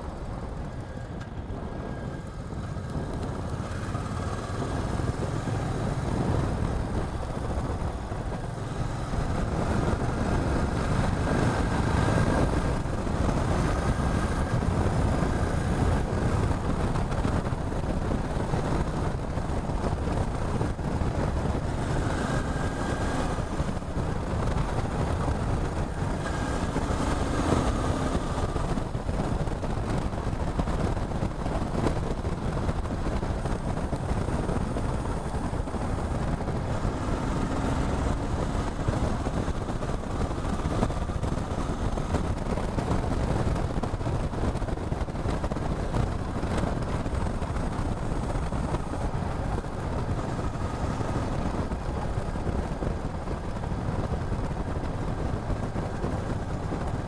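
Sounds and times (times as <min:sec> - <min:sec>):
motorcycle running: 0:00.0 - 0:57.0
wind noise on microphone: 0:00.0 - 0:57.0.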